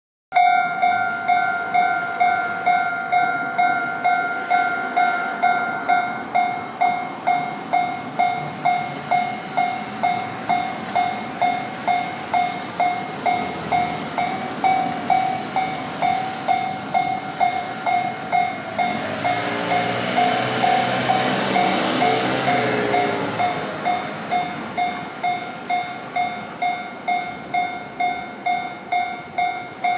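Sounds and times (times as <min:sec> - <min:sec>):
level-crossing warning bell ringing: 0:00.3 - 0:29.9
approaching train: 0:00.4 - 0:29.9.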